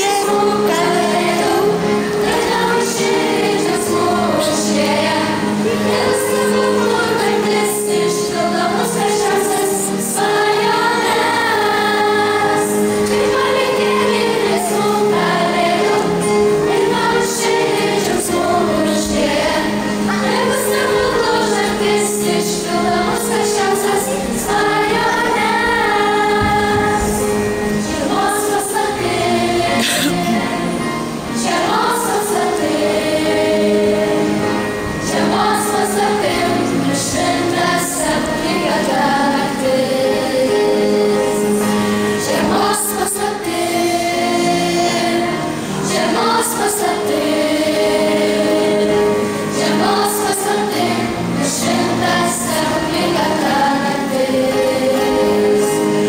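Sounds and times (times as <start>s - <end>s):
electronic keyboard accompaniment: 0.0s - 56.0s
girls choir singing: 0.0s - 56.0s.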